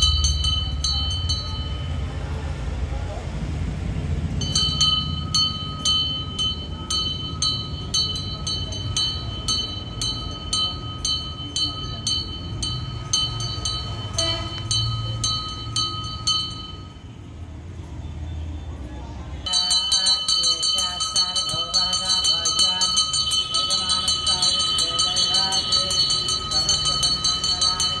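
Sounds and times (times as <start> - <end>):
brass hand bell ringing: 0.0 - 2.2, 4.4 - 17.1, 19.5 - 28.0.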